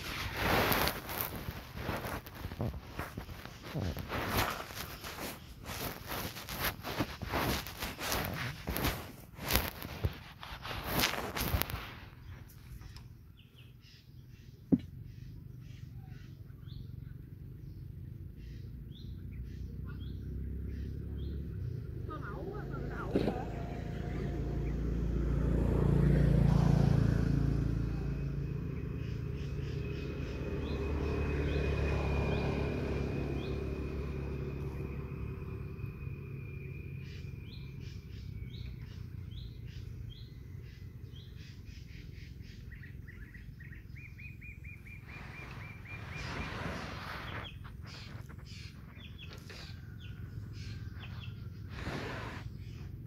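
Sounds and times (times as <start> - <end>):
small birds chirping: 0.0 - 53.0
vehicles passing: 0.0 - 53.0.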